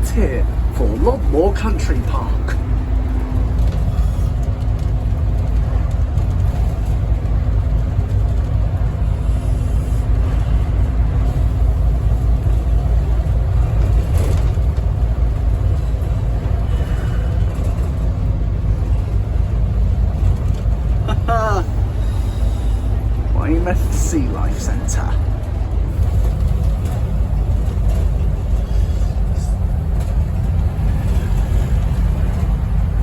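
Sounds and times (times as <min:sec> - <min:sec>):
bus diesel engine drone: 0:00.0 - 0:33.0
road rumble: 0:00.0 - 0:33.0.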